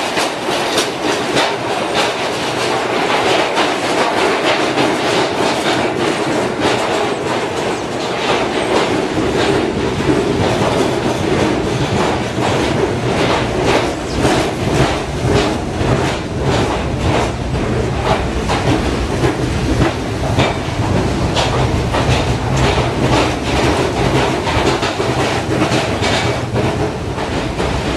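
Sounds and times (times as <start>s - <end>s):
low train hum: 0.0s - 27.9s
subway train wheels clicking: 0.0s - 27.9s.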